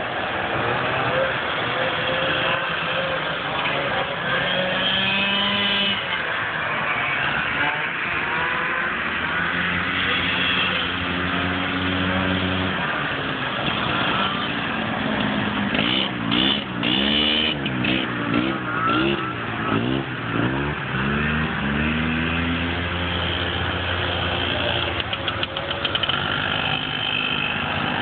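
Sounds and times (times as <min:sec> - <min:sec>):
snowmobile engines revving: 0:00.0 - 0:28.0.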